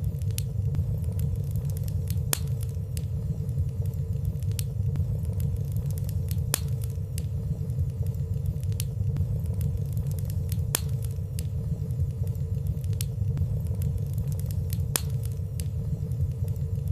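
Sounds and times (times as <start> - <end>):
fire burning in fireplace: 0.0 - 16.9
light crackles of fire: 0.0 - 16.9.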